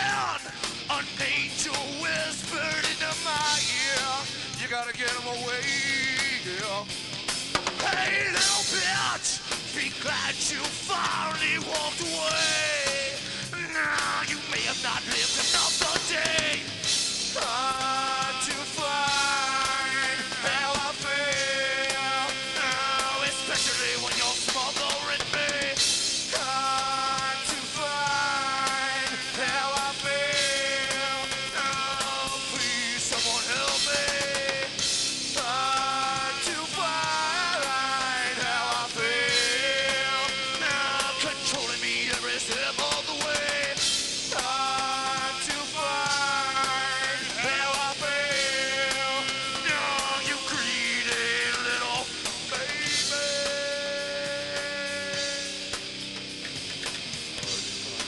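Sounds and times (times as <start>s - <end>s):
rock band playing: 0.0s - 58.0s
sliding lead guitar line: 0.0s - 58.0s.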